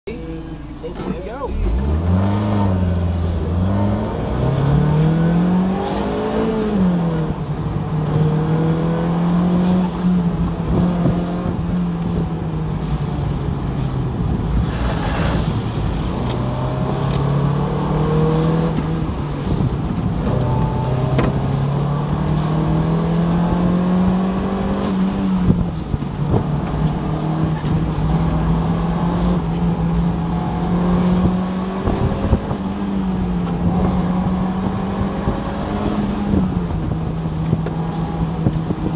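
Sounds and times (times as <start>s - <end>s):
road and tyre noise: 0.0s - 38.9s
car engine revving: 0.1s - 38.9s.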